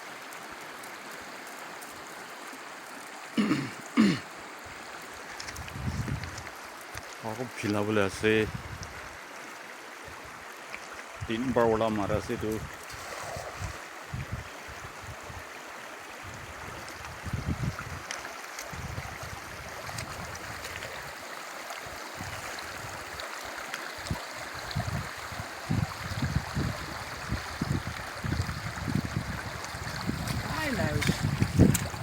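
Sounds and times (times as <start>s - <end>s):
river water rushing: 0.0s - 5.7s, 9.0s - 11.3s, 12.8s - 32.0s.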